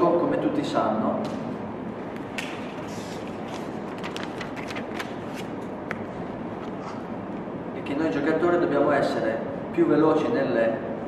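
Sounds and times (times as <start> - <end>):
room noise: 0.0 - 11.0.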